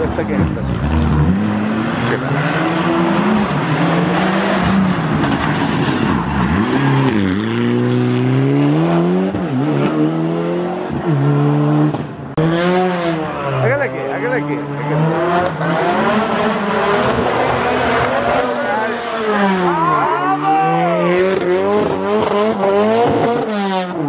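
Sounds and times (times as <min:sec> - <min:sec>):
another rally car engine revving: 0:00.0 - 0:24.0
rally car engine: 0:00.0 - 0:24.0.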